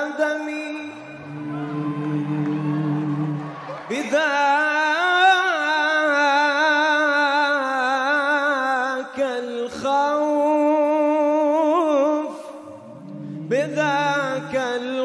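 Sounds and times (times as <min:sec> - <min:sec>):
person singing a devotional chant: 0:00.0 - 0:15.0.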